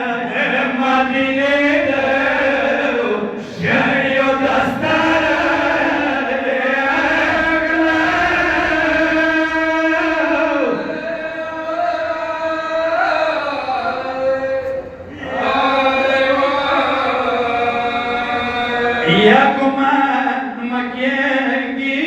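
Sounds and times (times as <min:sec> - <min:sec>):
man chanting a lament: 0:00.0 - 0:22.0.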